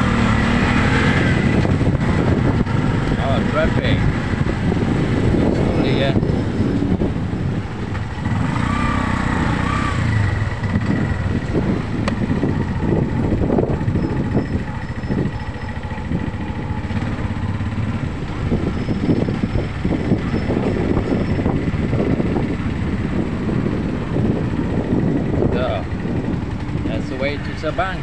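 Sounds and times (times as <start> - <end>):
scooter engine running: 0.0 - 28.0
tricycle engines: 0.0 - 28.0
wind buffeting microphone: 0.0 - 28.0.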